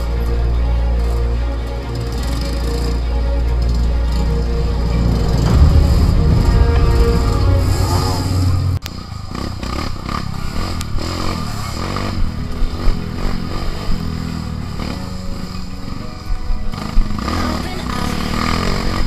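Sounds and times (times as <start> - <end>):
music: 0.0 - 8.9, 12.2 - 19.0.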